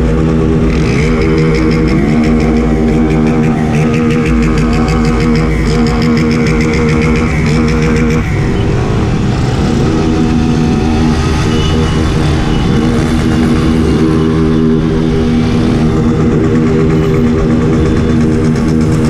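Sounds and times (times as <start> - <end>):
motorcycle engine cruising: 0.0 - 19.0
other motorcycles riding: 0.0 - 19.0.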